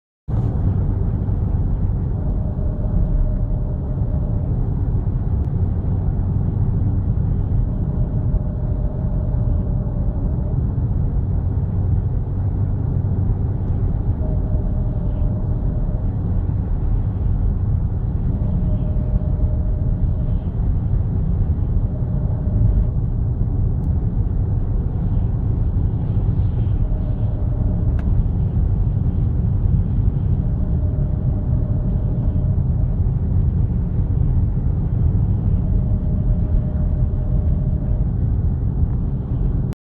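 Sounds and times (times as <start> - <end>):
car engine low rumble: 0.3 - 39.8
thin whine: 0.3 - 39.8.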